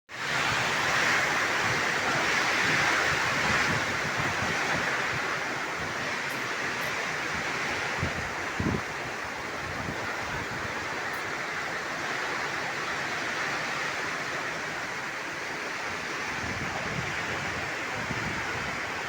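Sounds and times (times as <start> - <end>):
heavy rain pouring: 0.1 - 19.0
wind buffeting microphone: 0.3 - 19.0.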